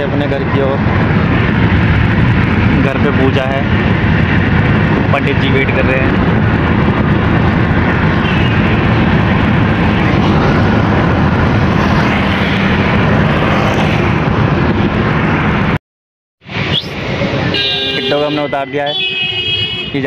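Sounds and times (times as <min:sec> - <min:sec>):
wind and road noise in a car: 0:00.0 - 0:15.8, 0:16.5 - 0:20.0.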